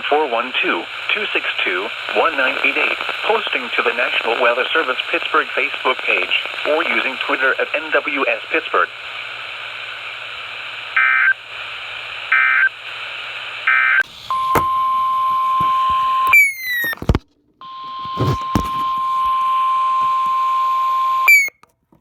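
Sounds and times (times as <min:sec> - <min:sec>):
radio static: 0:00.0 - 0:20.5.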